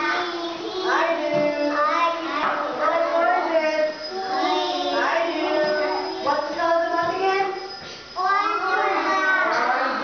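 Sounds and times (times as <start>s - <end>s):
children singing together: 0.0s - 7.5s, 8.2s - 10.0s.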